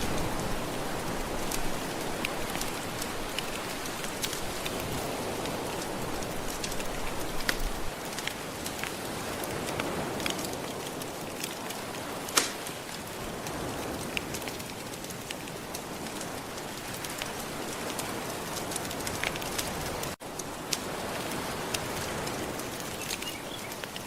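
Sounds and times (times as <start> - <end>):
fireplace crackling: 0.0 - 24.0
ocean waves washing: 0.0 - 24.0.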